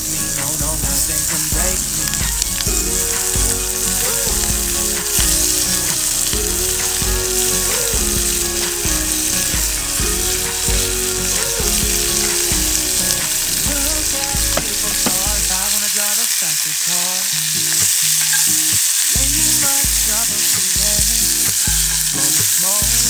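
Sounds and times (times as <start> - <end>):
instrumental pop music: 0.0 - 23.0
steady high hiss: 0.0 - 23.0.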